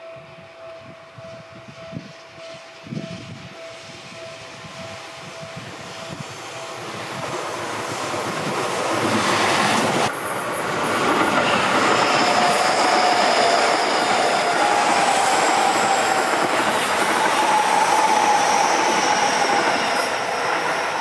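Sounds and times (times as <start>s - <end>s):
electric train rumble and rail clatter: 0.0s - 21.0s.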